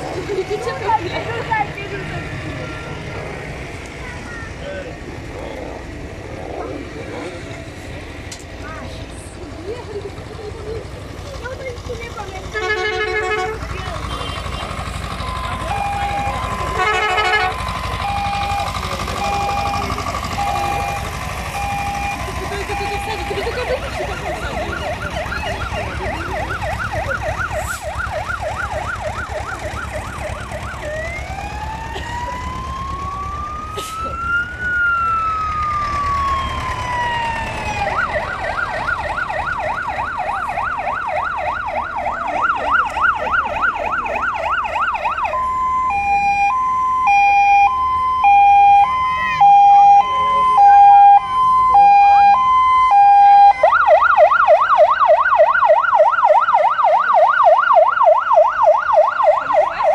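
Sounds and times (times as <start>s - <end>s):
fire engine sirens: 0.0s - 59.9s
tractor engines rumbling: 0.0s - 59.9s.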